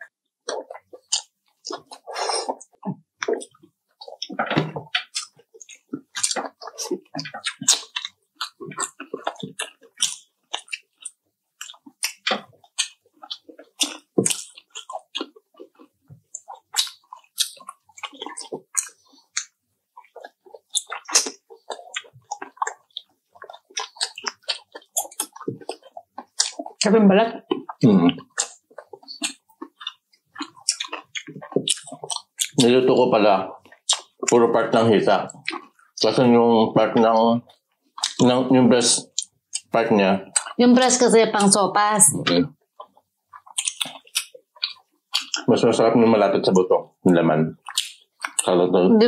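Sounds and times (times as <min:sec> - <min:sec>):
wet chewing smacks and clicks: 0:00.4 - 0:48.6.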